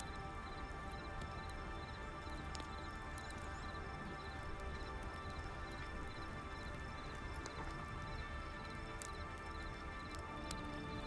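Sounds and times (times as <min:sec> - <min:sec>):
soft music with held tones: 0:00.0 - 0:11.0.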